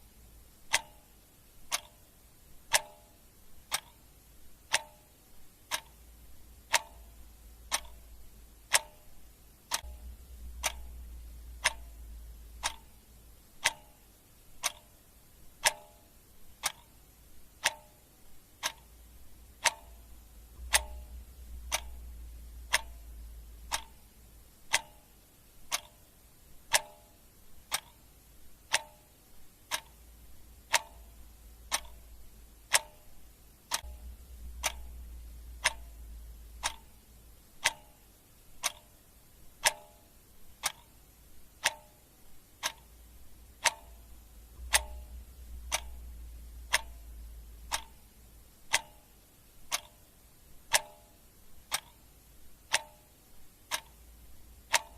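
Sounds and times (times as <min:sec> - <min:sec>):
clock ticking: 0:00.0 - 0:54.9
faint low hum: 0:00.0 - 0:54.9.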